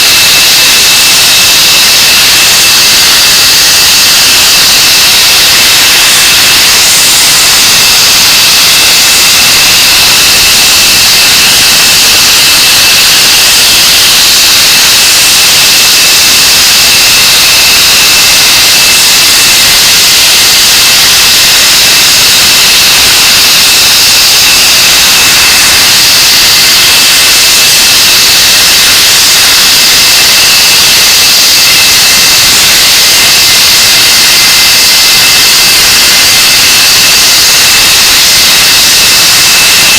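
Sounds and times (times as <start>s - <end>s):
jet engines running: 0.0s - 36.6s
high compressor whine: 0.0s - 39.9s.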